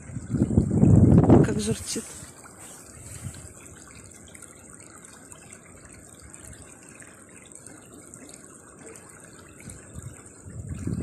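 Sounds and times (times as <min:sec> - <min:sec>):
stream babbling over stones: 0:00.0 - 0:11.0.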